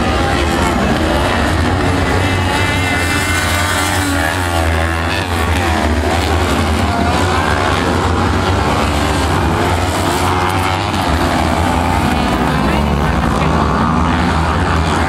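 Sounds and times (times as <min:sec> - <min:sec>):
buggy engines revving: 0:00.0 - 0:15.0.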